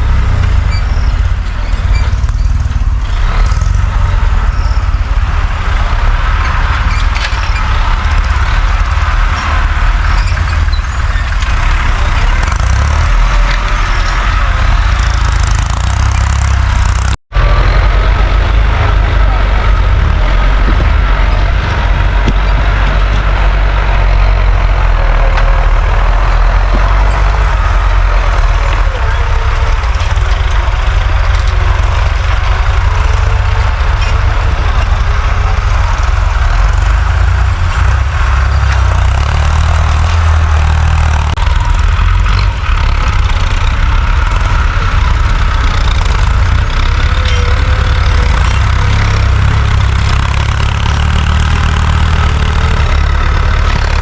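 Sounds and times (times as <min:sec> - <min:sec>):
tractor engine rumbling: 0:00.0 - 0:54.0.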